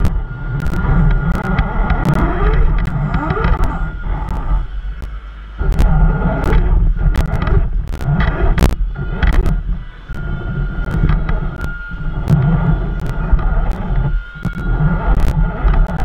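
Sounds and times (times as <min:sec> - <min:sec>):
electric motor whining: 0:00.0 - 0:16.0
low rumble: 0:00.0 - 0:16.0
sharp clicks and knocks: 0:00.0 - 0:16.0.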